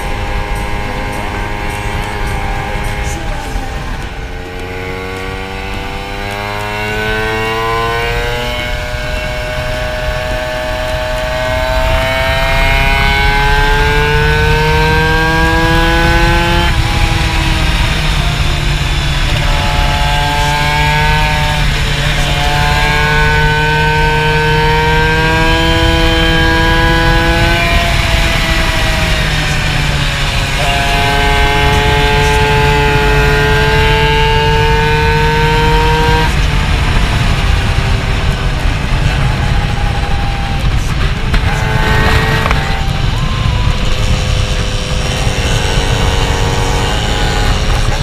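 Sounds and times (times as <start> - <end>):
scooter engine accelerating: 0.0 - 48.0.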